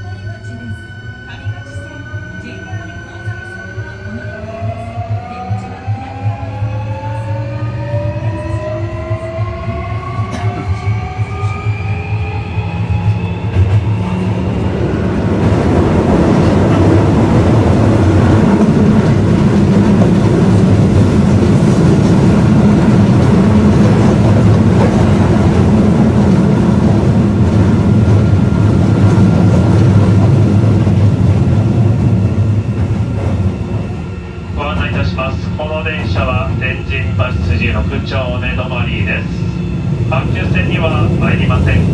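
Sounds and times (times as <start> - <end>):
train inverter whine: 0.0 - 41.9
train wheels running on rails: 1.4 - 41.9.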